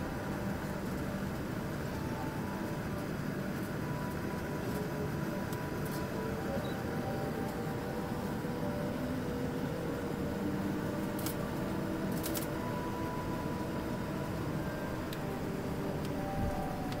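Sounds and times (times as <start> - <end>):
cabin air hum: 0.0 - 17.0
faint steady tones: 0.0 - 17.0
jet engines idling: 0.0 - 17.0.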